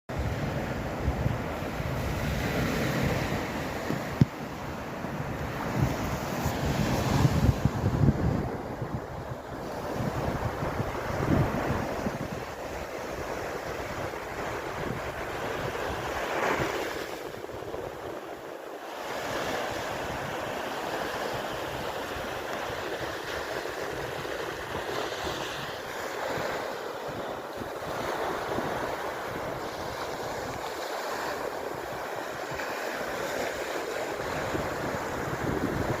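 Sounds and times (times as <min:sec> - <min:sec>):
sea waves breaking on shore: 0:00.1 - 0:36.0
wind buffeting microphone: 0:00.1 - 0:36.0.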